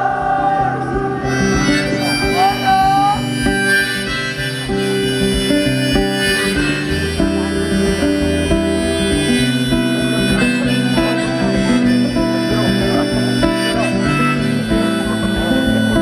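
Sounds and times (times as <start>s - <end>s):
acoustic guitar strumming: 0.0s - 16.0s
harmonica melody: 0.0s - 16.0s.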